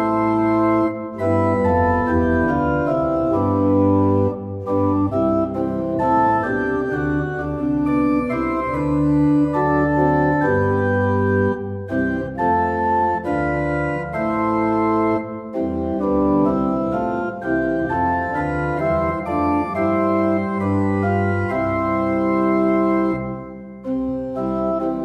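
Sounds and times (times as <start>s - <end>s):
church organ playing a hymn: 0.0s - 25.0s.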